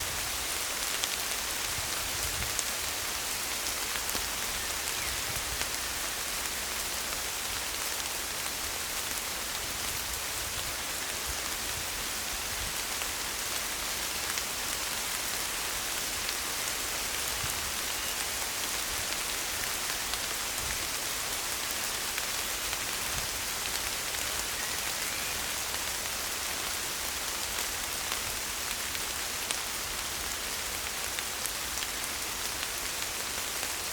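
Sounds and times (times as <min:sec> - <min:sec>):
rain on leaves: 0:00.0 - 0:33.9.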